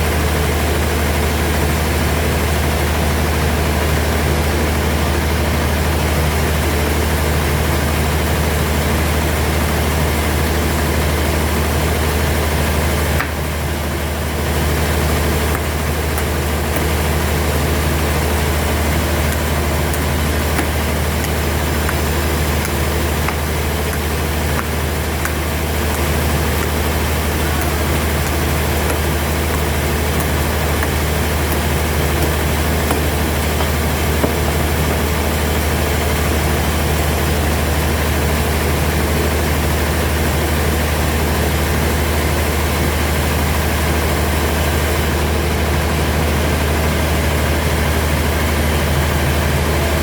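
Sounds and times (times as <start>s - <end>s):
sawmill machinery humming: 0.0s - 50.0s.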